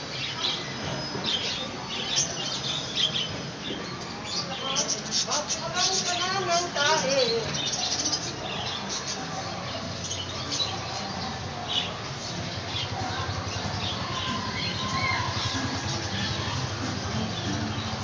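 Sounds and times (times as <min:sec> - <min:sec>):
caged birds chirping and squawking: 0:00.0 - 0:18.0.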